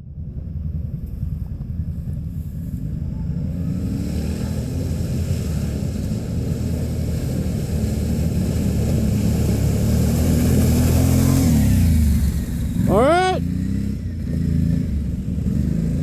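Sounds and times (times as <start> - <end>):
atv engine droning: 0.1 - 16.0.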